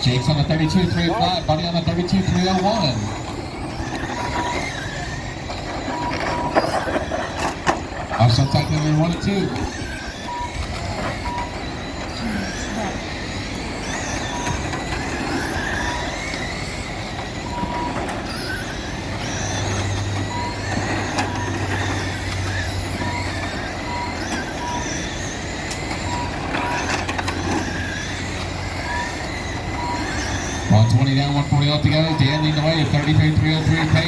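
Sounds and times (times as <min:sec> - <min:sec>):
rc car motors whining: 0:00.0 - 0:34.0
short lap-timing beeps: 0:00.0 - 0:34.0.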